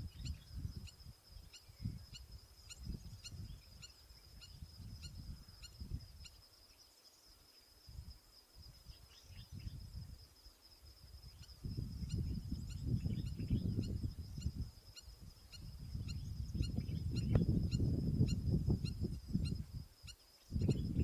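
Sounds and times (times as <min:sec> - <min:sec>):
wind buffeting microphone: 0:00.0 - 0:06.3, 0:07.9 - 0:10.2, 0:10.9 - 0:21.0.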